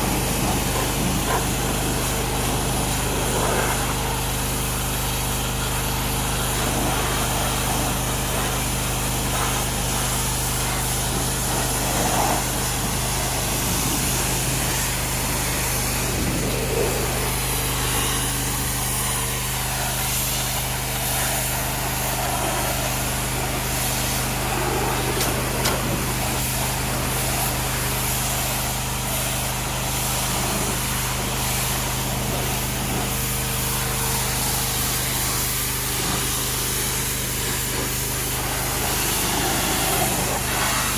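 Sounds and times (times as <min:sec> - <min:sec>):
pressure washer motor droning: 0:00.0 - 0:40.9
water spray hissing: 0:00.0 - 0:40.9.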